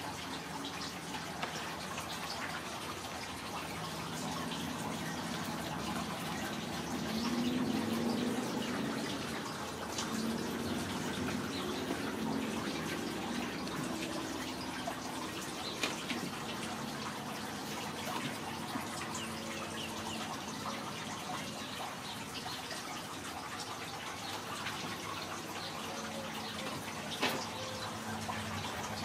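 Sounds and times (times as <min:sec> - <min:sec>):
running water trickling: 0:00.0 - 0:29.0.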